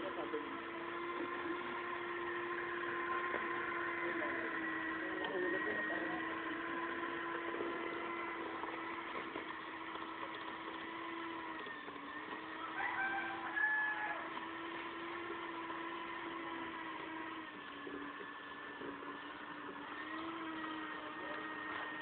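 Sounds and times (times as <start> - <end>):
electric hand mixer whine: 0.0 - 22.0.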